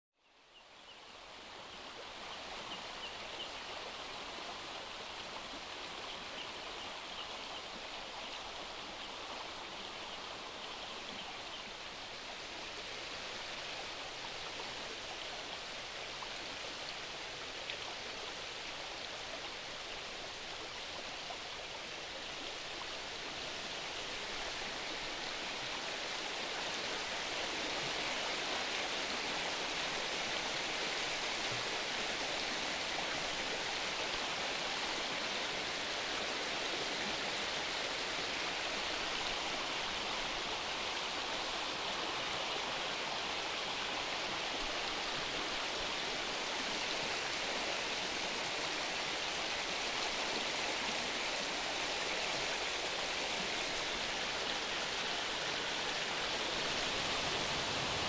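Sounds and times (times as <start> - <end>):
stream flowing over rocks: 1.0 - 58.0.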